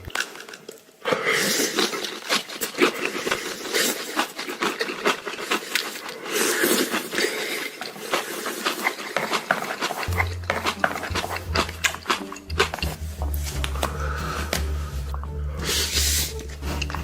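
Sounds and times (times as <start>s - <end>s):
chewing crisp food: 1.4s - 17.0s.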